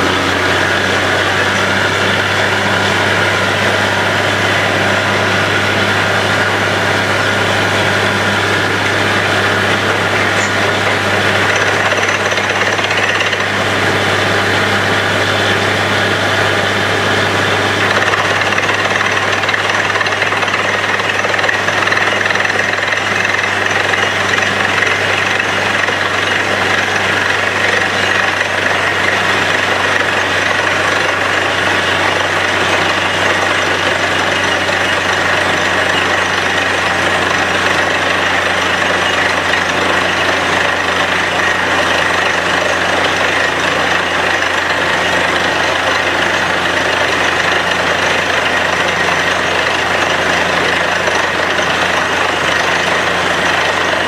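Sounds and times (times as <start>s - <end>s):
percussive drill hammering: 0.0s - 16.0s, 16.6s - 54.0s
engine and compressor drone: 0.0s - 54.0s.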